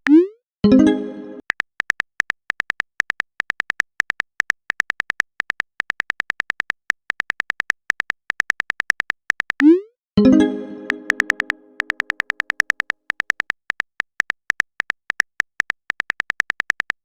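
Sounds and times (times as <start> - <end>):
phone keyboard typing clicks: 1.5 - 9.8, 10.8 - 17.0.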